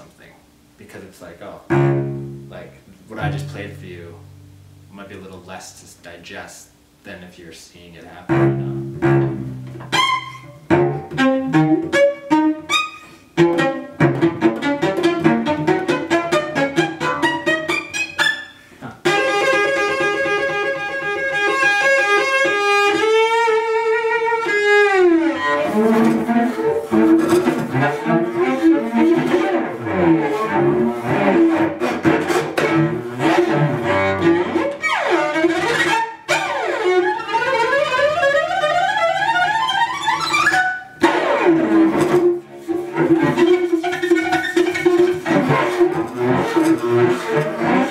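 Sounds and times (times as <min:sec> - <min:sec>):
solo cello playing: 0:01.6 - 0:04.9, 0:08.2 - 0:47.9.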